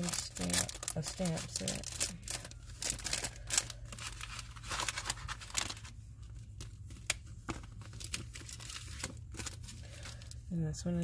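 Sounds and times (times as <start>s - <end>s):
plastic sleeve crinkling: 0.0s - 10.5s.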